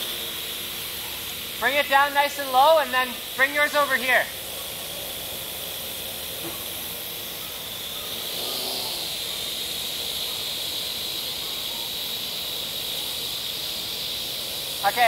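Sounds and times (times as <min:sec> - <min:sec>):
drone rotors whirring: 0:00.0 - 0:15.0.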